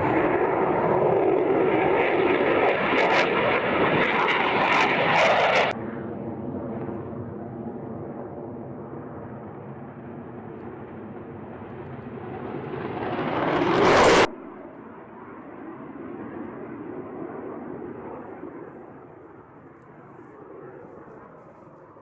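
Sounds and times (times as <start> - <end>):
distant jet rumble: 0.0 - 22.0
jet engine roar: 0.0 - 22.0.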